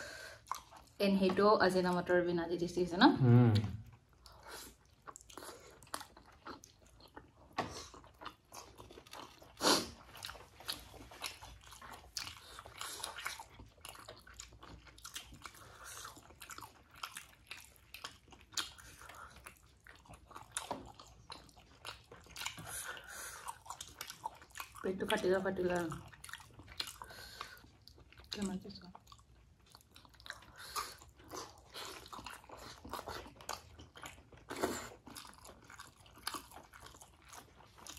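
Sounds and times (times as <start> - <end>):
person chewing dumplings: 0.0 - 1.0, 3.2 - 37.9.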